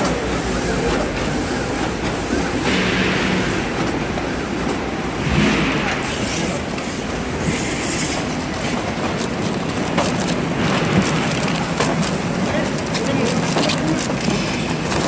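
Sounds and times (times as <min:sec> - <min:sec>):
packing machine rumble and rattle: 0:00.0 - 0:15.0.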